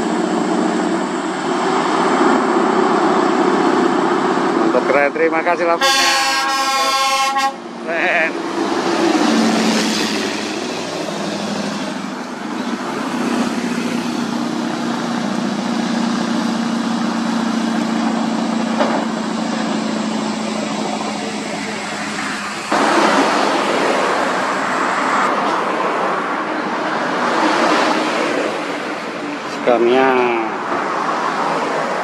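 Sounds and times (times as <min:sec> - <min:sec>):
heavy truck diesel engine: 0:00.0 - 0:32.0
road traffic rushing: 0:00.0 - 0:32.0.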